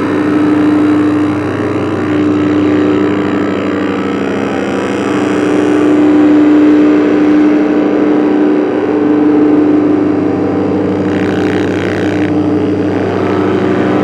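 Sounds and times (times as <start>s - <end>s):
drone synthesizer music: 0.0s - 14.0s.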